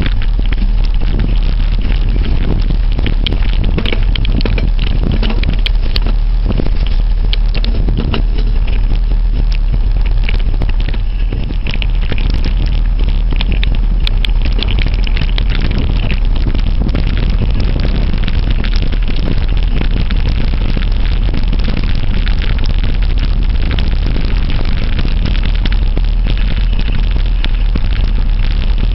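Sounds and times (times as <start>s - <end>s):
bike clicks and rattles: 0.0s - 28.9s
low rumble: 0.0s - 28.9s
wind buffeting microphone: 0.0s - 28.9s.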